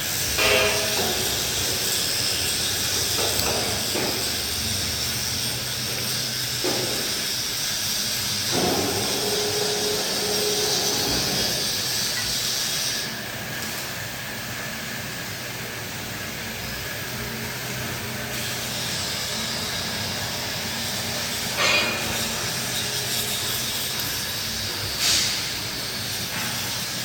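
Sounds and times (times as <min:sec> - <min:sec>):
hydraulic baler hissing: 0:00.0 - 0:27.0.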